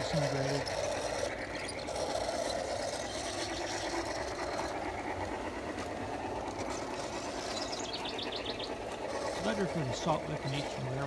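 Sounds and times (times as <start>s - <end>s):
model locomotive mechanical whir: 0.0s - 11.0s.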